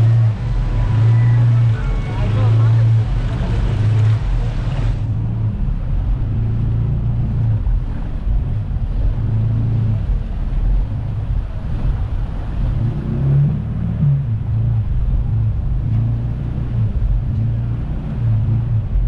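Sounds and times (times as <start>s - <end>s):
jet ski engine running: 0.0s - 19.0s
water noise: 0.0s - 19.0s
wind: 0.0s - 19.0s.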